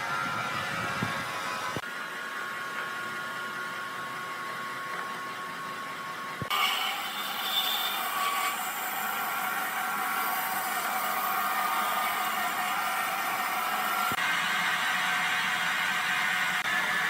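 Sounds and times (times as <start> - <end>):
sawmill machinery whirring: 0.0 - 17.0.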